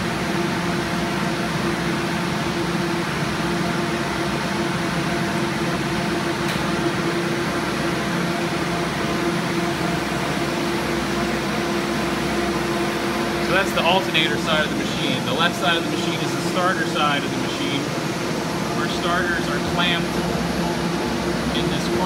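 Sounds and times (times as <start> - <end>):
whirring machine hum: 0.0 - 22.0.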